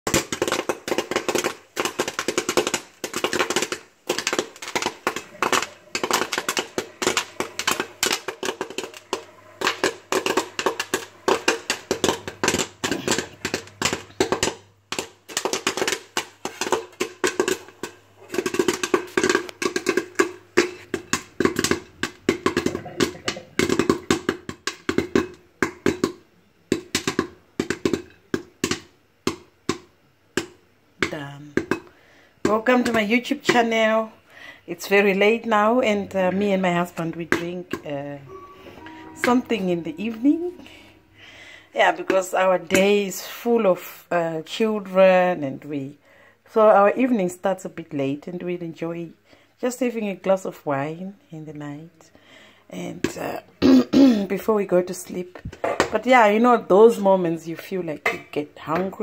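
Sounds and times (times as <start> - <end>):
popcorn popping in a pot: 0.0 - 46.0, 52.4 - 59.0.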